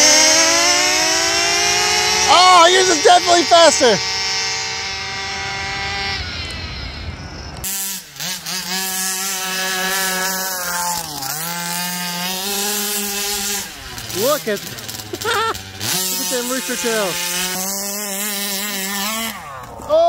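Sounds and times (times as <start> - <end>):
rc buggy engine running hard: 0.0 - 20.0
rc car engines buzzing: 0.0 - 20.0.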